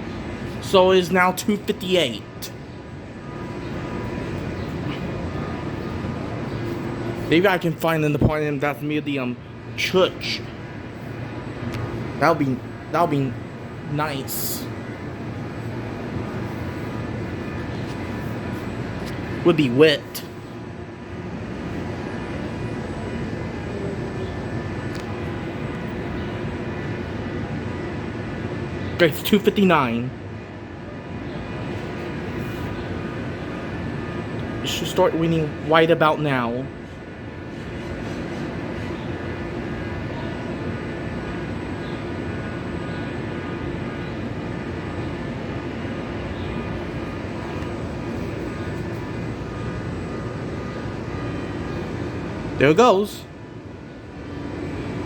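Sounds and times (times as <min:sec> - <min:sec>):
faint constant hum: 0:00.0 - 0:55.0
faint steady tones: 0:00.0 - 0:55.0
low city rumble: 0:00.0 - 0:55.0.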